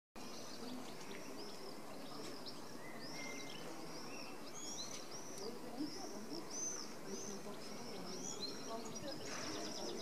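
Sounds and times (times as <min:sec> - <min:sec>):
low outdoor background: 0:00.2 - 0:10.0
small birds chirping: 0:00.2 - 0:10.0.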